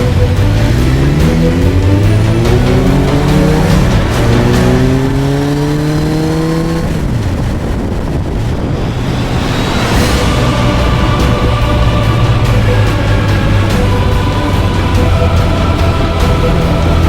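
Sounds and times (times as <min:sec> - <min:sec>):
motorcycle engine accelerating: 0:00.0 - 0:17.0
wind rush: 0:00.0 - 0:17.0.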